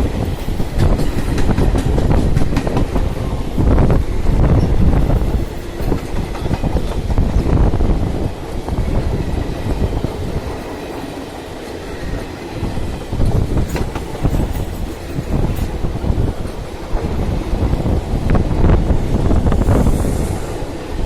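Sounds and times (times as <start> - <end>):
train wheels clattering over rails: 0.0 - 21.0.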